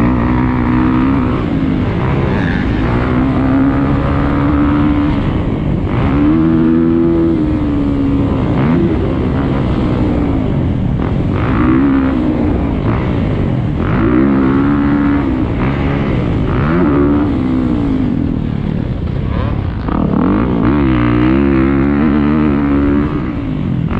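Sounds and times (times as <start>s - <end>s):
motocross bike engine revving: 0.0s - 23.9s.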